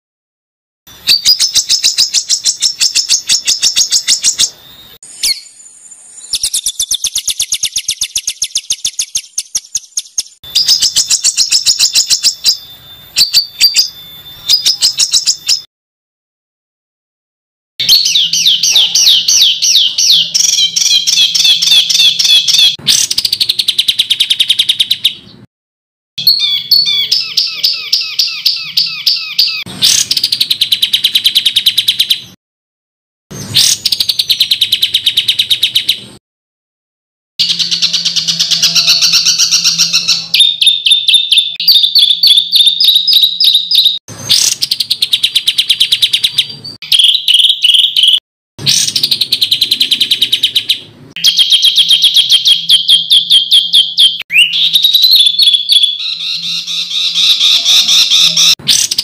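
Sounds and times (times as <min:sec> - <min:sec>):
songbird harsh rapid notes: 0:00.9 - 0:15.7, 0:17.8 - 0:25.4, 0:26.2 - 0:32.3, 0:37.4 - 0:59.0.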